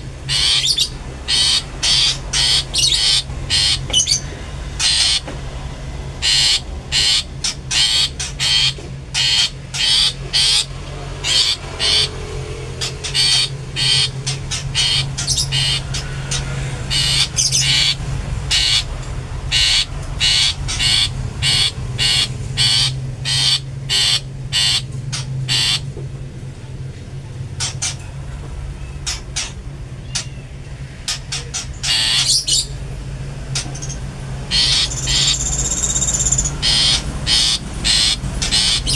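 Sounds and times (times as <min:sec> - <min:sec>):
bird harsh squawking calls: 0:00.0 - 0:05.3, 0:06.2 - 0:25.9, 0:28.8 - 0:32.8, 0:33.6 - 0:38.9.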